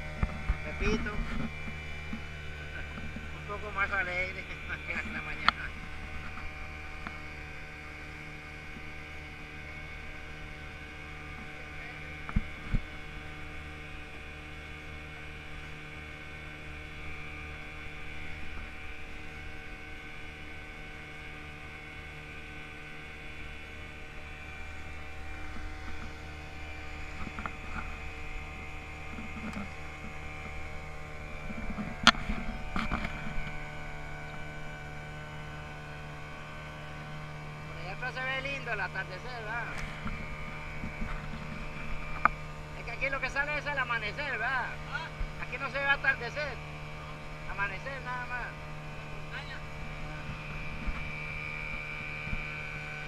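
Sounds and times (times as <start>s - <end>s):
motor humming: 0.0s - 53.0s.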